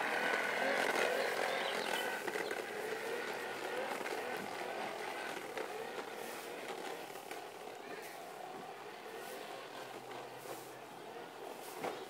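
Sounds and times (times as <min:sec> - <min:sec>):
toy mower humming and clattering: 0:00.0 - 0:12.0.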